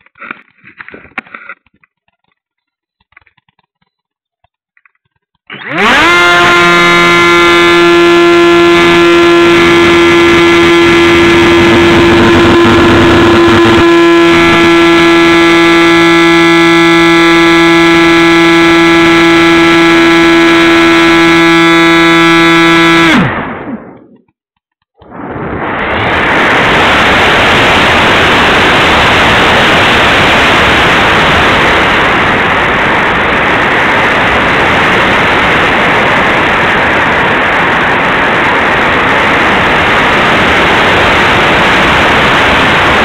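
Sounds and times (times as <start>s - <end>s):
electric motor and propeller whine: 5.1s - 43.0s.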